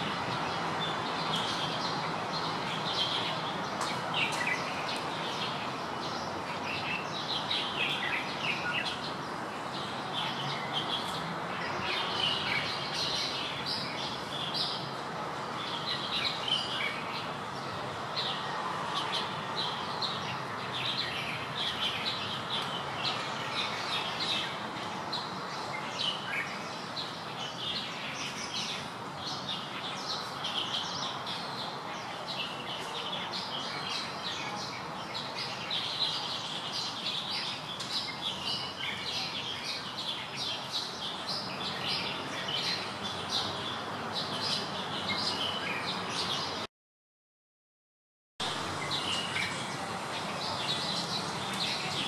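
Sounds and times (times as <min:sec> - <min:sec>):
outdoor background noise: 0:00.0 - 0:46.7, 0:48.4 - 0:52.0
small birds chirping: 0:00.0 - 0:46.7, 0:48.5 - 0:52.0.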